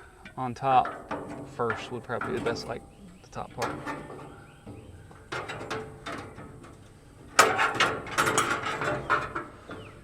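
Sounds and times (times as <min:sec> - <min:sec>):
metal clatter: 0:00.2 - 0:10.0.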